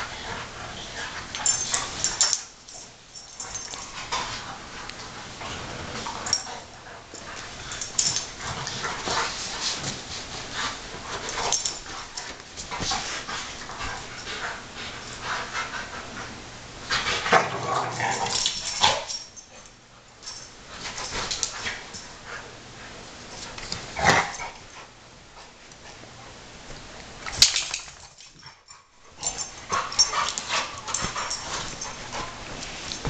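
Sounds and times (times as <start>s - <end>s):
dogs play-fighting: 0.0s - 33.0s.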